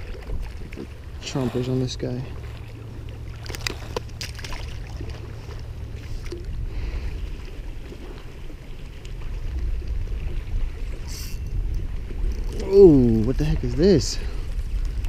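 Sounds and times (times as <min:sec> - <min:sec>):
water sloshing around legs: 0:00.0 - 0:15.0
wind rumble on microphone: 0:00.0 - 0:15.0.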